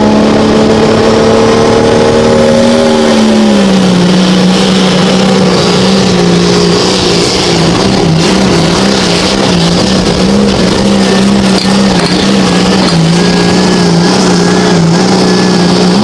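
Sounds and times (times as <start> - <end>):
loud engine running hard: 0.0 - 16.0.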